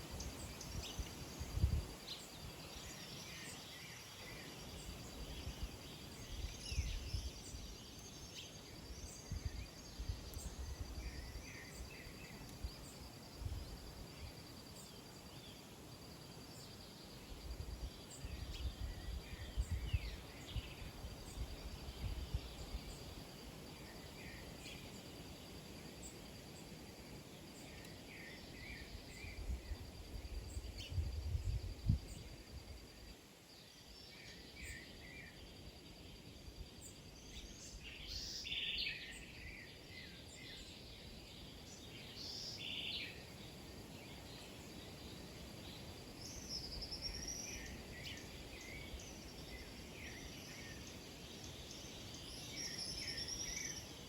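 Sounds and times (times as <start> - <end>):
small birds chirping: 0.0 - 32.4, 33.5 - 54.0.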